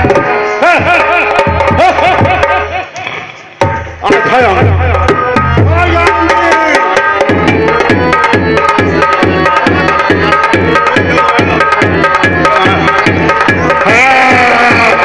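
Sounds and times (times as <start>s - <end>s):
hand drum beat: 0.0s - 15.0s.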